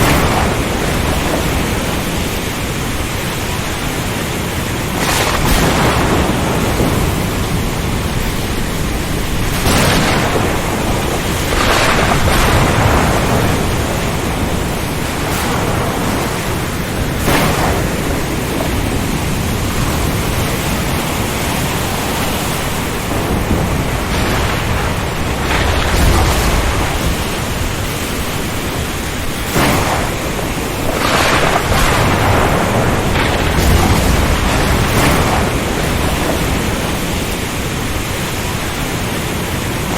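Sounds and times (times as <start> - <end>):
deep rumbles: 0.0 - 37.9
strong wind and rain: 0.0 - 39.9.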